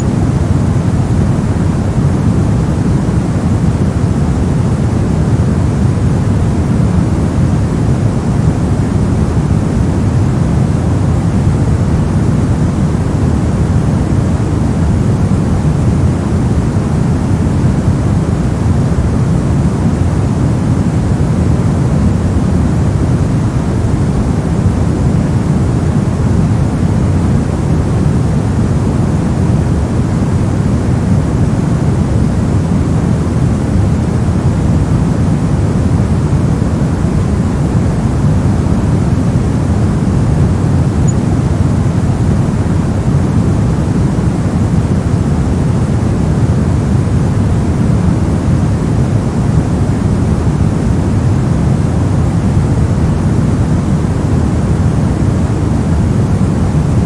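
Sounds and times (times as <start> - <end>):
deep white noise rush: 0.0 - 57.0.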